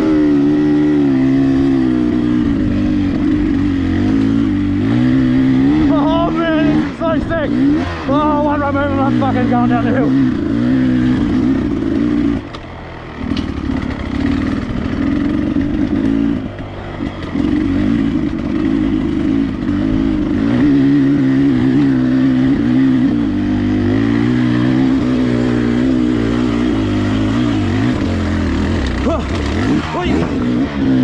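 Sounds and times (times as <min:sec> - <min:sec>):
dirt bike engine running hard: 0:00.0 - 0:31.0.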